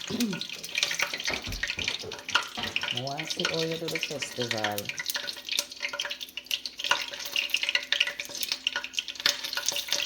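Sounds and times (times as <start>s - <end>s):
hot oil crackling and popping: 0.0s - 10.0s.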